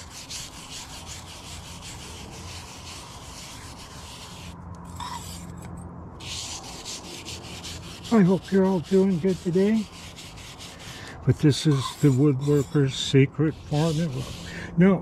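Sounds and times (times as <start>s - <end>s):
brush scrubbing wet metal: 0.0s - 5.6s, 6.2s - 14.5s.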